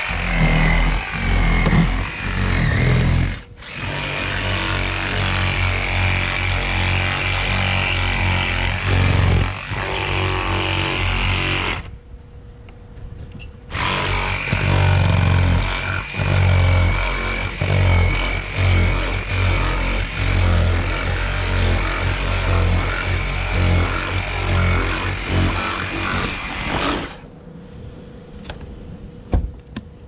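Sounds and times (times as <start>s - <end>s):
power tool buzzing: 0.0s - 11.9s, 13.7s - 27.3s.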